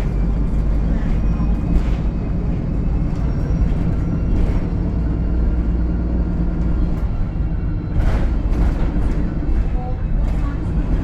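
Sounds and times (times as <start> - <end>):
bus engine drone with whine: 0.0 - 11.0.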